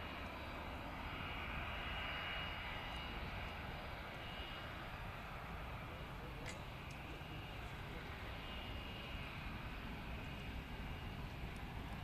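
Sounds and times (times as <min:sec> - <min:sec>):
high-pitched engine whine: 0:00.0 - 0:12.0
jet engines at taxi power: 0:00.0 - 0:12.0.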